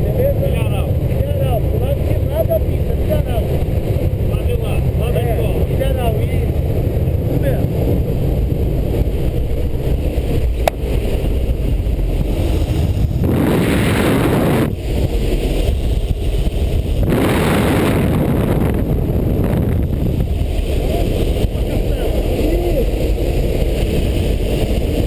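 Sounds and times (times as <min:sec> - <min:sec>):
gusts of wind noise: 0:00.0 - 0:25.0
light aircraft engine: 0:00.0 - 0:25.0
wind rushing through open door: 0:02.1 - 0:25.0.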